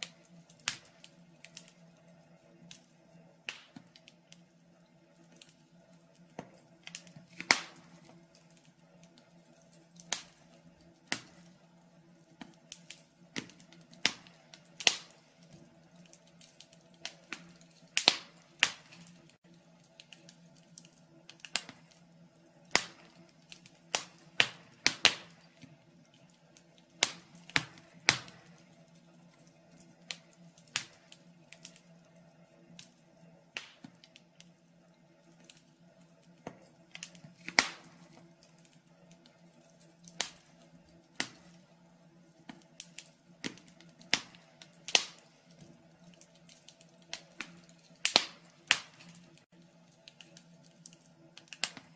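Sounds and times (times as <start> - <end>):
low steady hum: 0.0 - 51.9
wood fire crackling: 0.0 - 51.9.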